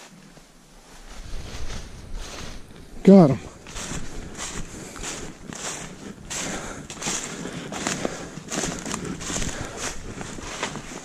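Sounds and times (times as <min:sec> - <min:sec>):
footsteps crunching dry leaves: 0:00.8 - 0:11.0.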